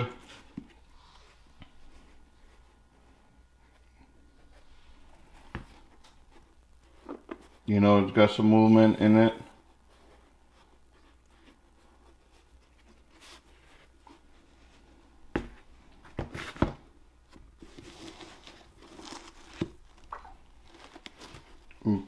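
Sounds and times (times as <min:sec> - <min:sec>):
soft rustling: 0:00.0 - 0:22.0.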